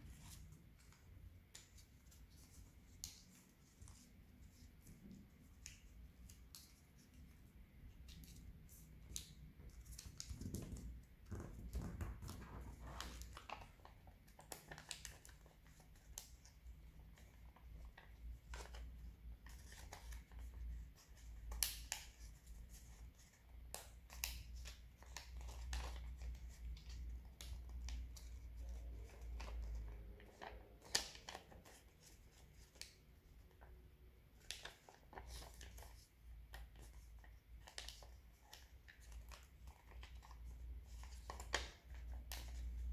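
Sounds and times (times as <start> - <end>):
paper rustling and crinkling: 0.0 - 33.6, 34.2 - 42.9.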